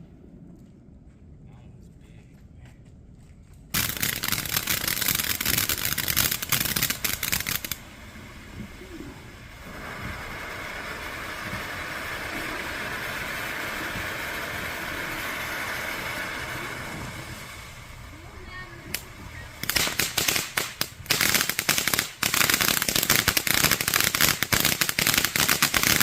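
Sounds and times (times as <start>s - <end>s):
fireworks crackling: 3.7s - 26.0s
hiss of spraying sparks: 3.8s - 26.0s.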